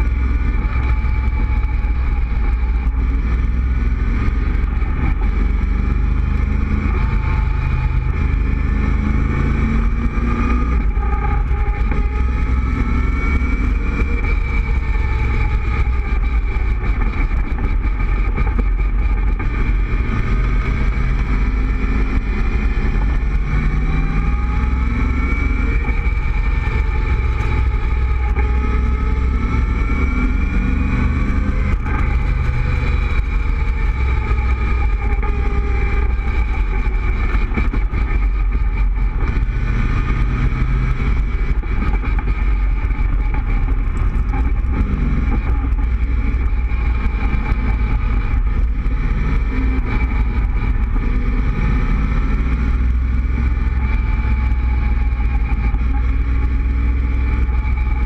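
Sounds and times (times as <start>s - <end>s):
sports car engine running: 0.0s - 58.0s
wind and road noise: 0.0s - 58.0s.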